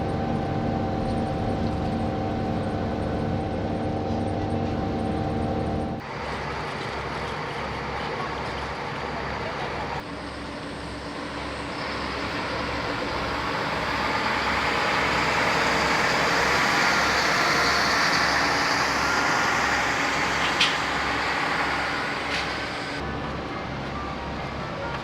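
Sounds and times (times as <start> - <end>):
road vehicle noise: 0.0 - 25.0.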